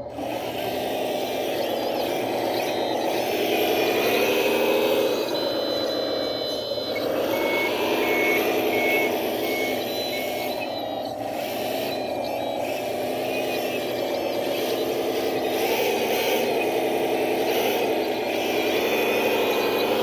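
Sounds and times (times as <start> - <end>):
heavy equipment engine running: 0.0 - 20.0
backup alarm beeping: 0.1 - 20.0.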